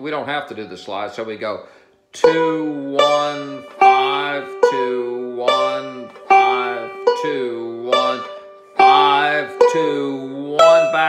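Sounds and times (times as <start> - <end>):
banjo picking with slides: 1.6 - 11.0.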